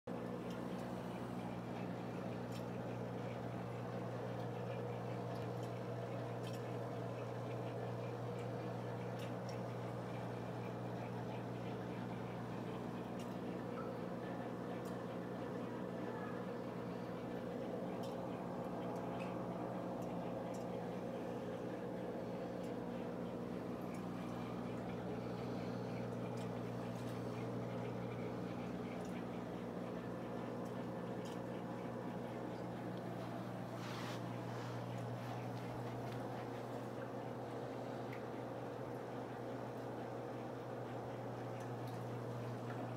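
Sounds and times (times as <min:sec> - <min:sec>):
aquarium filter pump humming: 0:00.1 - 0:42.9
faint watery ticks: 0:00.1 - 0:42.9.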